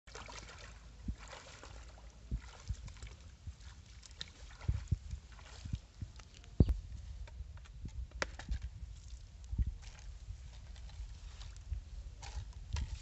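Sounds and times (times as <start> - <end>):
bare feet splashing in muddy water: 0.1 - 6.6, 8.4 - 13.0.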